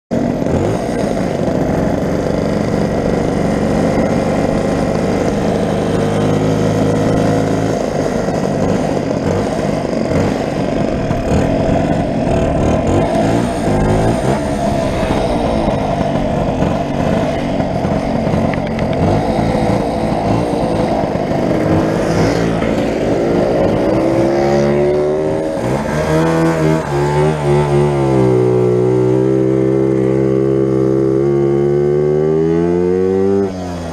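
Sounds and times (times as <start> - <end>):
wind rushing over microphone: 0.1 - 31.6
scooter engine running: 0.1 - 33.9.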